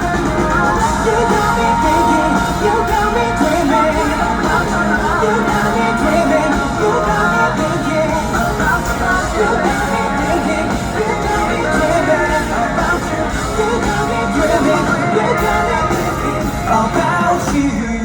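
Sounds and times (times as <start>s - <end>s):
live pop-rock band: 0.0s - 18.0s
person singing: 0.0s - 18.0s.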